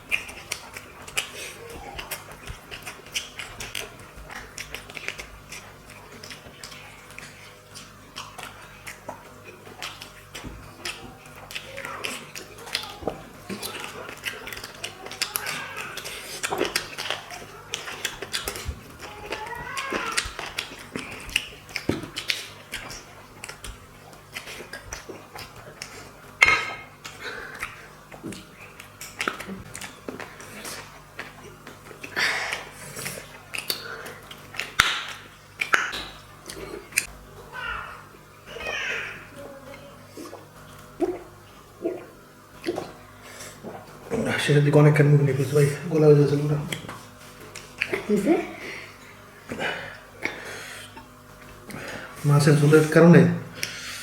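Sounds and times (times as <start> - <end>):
wet chewing and smacking: 0.0 - 54.0.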